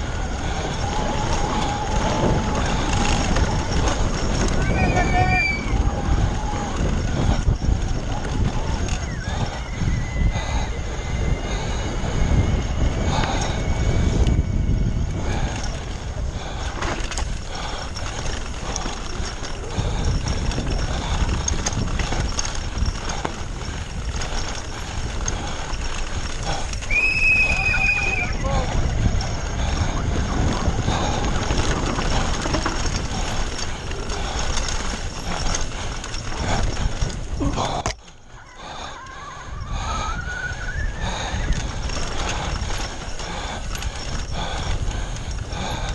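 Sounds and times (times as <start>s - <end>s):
tyres rumbling on dirt: 0.0s - 38.0s, 39.6s - 45.9s
bike rattling over bumps: 0.0s - 45.9s
wind buffeting microphone: 0.0s - 45.9s.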